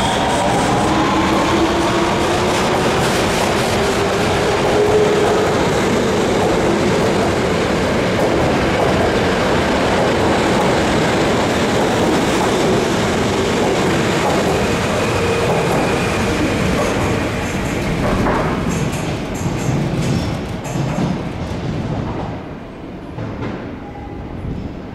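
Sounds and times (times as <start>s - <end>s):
subway train running: 0.0s - 24.9s.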